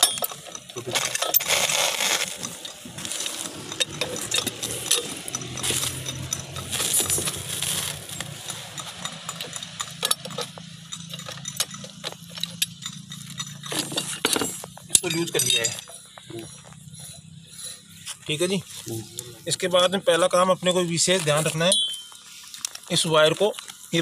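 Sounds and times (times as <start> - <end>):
sharp metal clinks: 0.0 - 18.6, 21.0 - 22.6
wrenches scraping and rustling: 0.0 - 24.0.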